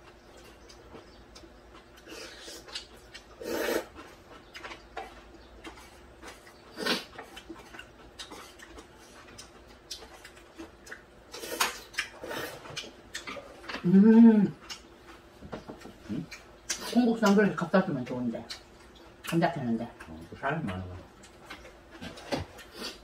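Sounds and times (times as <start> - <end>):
chewing: 0.0 - 17.4, 18.0 - 23.0.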